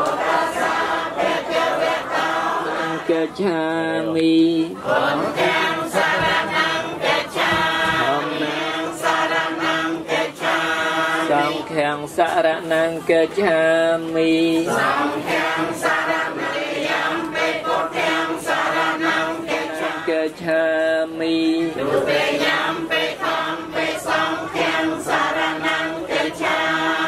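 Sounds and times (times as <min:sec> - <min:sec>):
congregation chanting in unison: 0:00.0 - 0:27.0.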